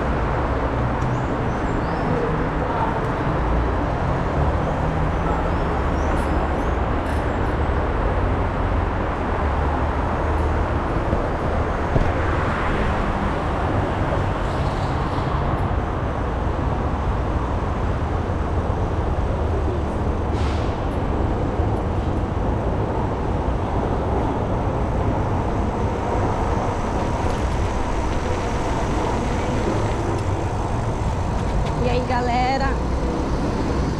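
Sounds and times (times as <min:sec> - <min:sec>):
city road traffic: 0:00.0 - 0:33.9.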